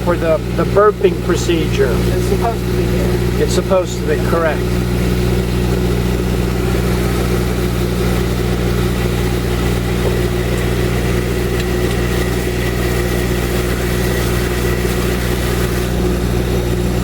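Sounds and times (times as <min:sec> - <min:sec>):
water pump humming with whine: 0:00.0 - 0:17.0.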